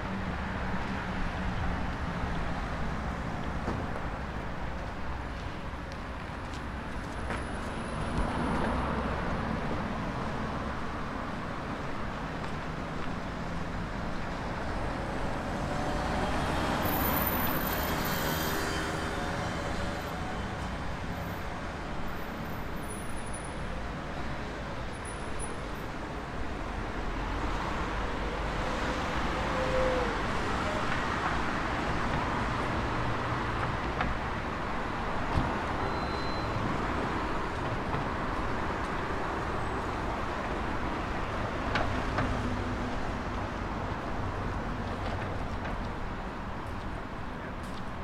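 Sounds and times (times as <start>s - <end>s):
cars passing: 0.0s - 48.0s.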